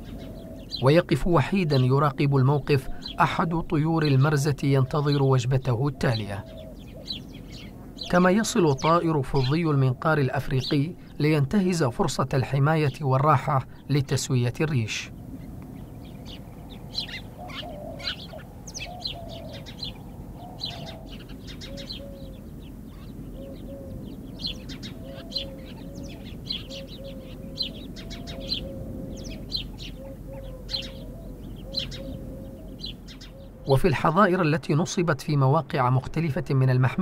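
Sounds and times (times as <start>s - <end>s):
small birds chirping: 0.0s - 37.0s
steady low background noise: 0.0s - 37.0s.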